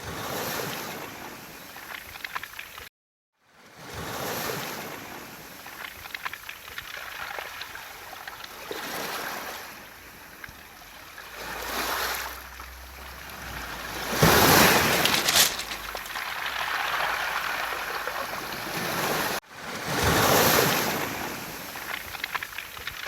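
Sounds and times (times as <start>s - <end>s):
waves washing over pebbles: 4.1s - 23.0s.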